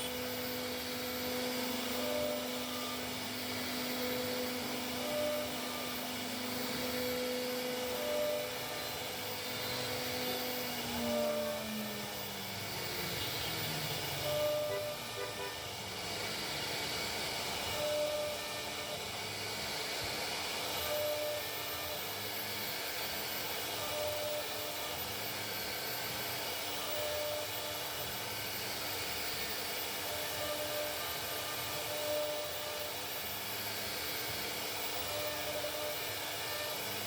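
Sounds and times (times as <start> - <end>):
router machine whine and hiss: 0.0 - 37.0.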